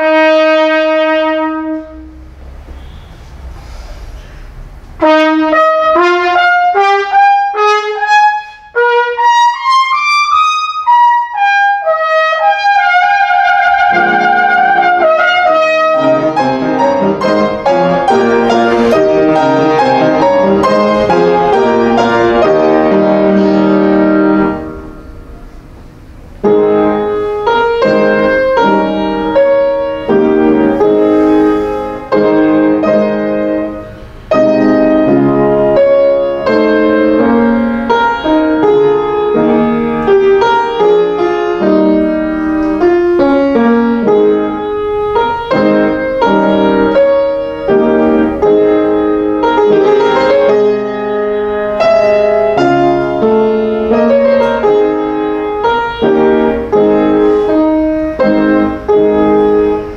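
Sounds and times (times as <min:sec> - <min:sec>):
piano accompaniment: 0:00.0 - 0:59.9.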